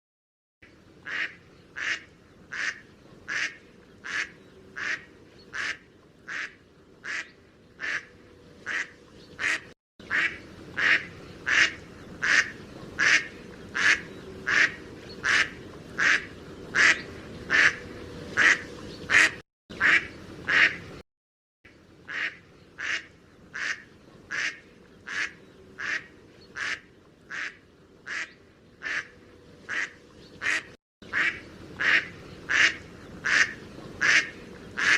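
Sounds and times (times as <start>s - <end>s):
duck quacking: 1.1s - 17.8s, 18.4s - 20.8s, 22.1s - 29.1s, 29.7s - 34.9s.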